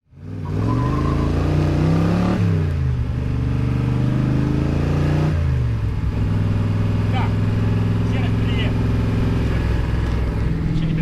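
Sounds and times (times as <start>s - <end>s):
car engine accelerating: 0.1s - 11.0s.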